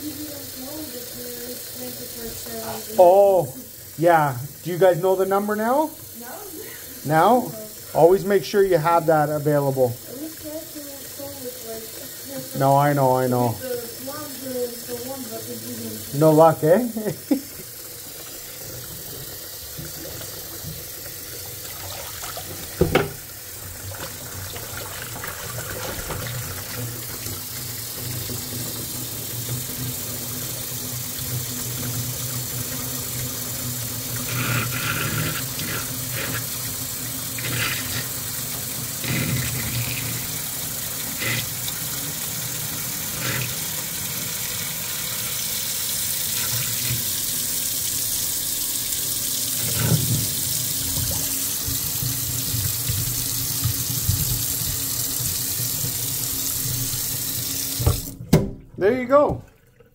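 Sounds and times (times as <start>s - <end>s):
faucet water running into sink: 0.0s - 59.9s.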